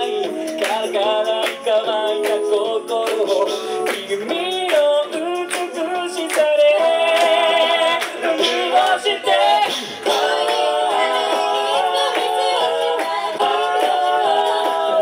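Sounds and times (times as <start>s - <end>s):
backing vocal harmonies: 0.0s - 15.0s.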